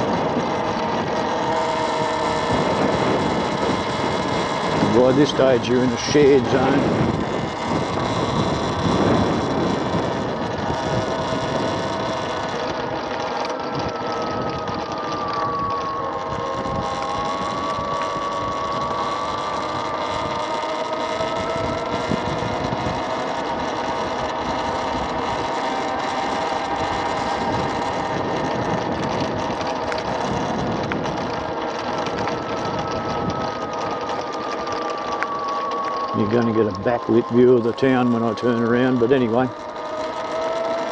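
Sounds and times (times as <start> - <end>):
electric scooter motor whining: 0.0 - 40.9
wind noise on microphone: 0.0 - 40.9.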